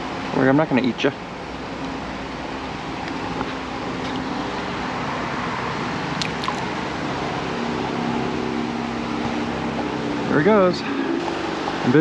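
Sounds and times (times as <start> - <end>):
flowing creek water: 0.0 - 12.0.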